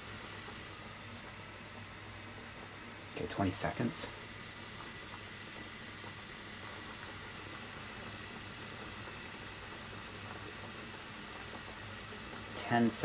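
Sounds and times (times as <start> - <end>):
water boiling in saucepan: 0.0 - 13.0.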